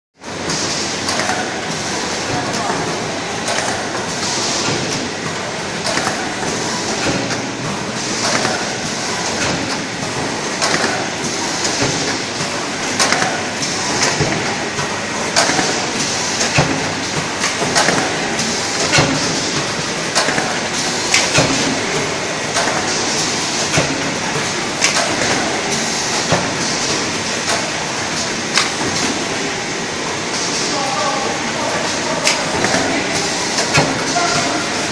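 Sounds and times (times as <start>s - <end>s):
machine clattering: 0.5s - 29.5s.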